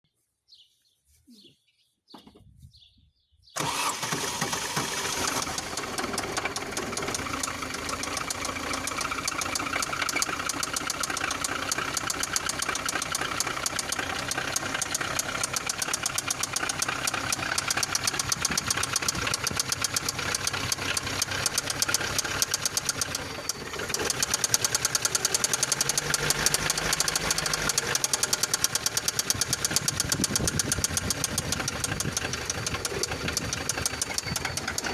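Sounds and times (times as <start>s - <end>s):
petrol engine starting and running: 3.6s - 34.9s
rapid rhythmic engine knock: 5.2s - 34.9s.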